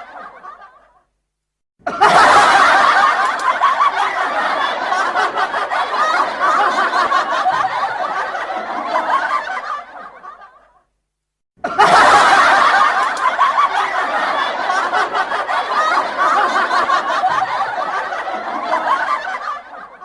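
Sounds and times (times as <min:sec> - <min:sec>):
crowd laughing: 0:00.0 - 0:01.1, 0:01.8 - 0:10.9, 0:11.6 - 0:20.0.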